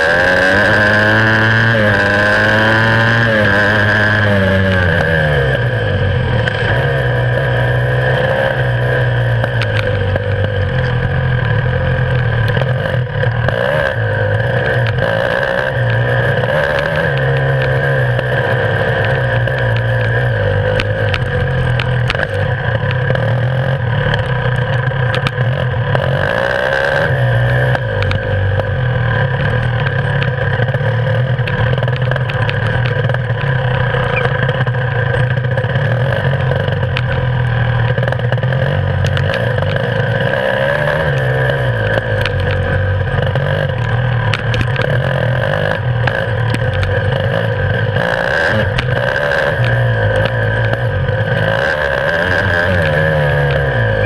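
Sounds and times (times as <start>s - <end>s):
motorcycle engine revving: 0.0s - 54.0s
sharp clicks and knocks: 6.3s - 28.7s, 29.3s - 54.0s.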